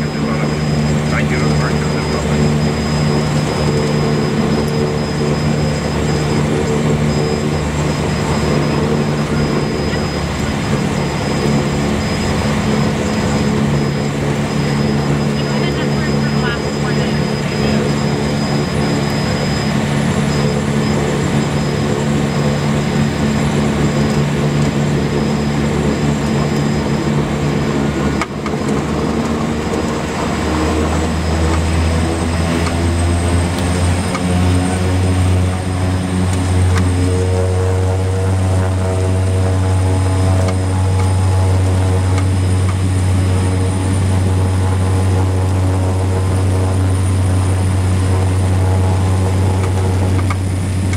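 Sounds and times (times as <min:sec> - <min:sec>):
high turbine whine: 0:00.0 - 0:50.9
propeller drone: 0:00.0 - 0:50.9.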